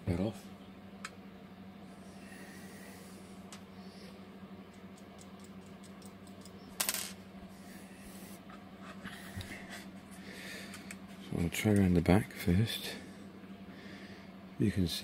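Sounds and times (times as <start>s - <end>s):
heater humming: 0.0s - 15.0s.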